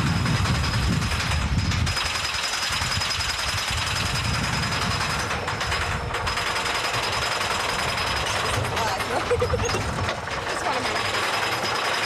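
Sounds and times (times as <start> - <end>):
roller coaster chain lift clattering: 0.0 - 12.0.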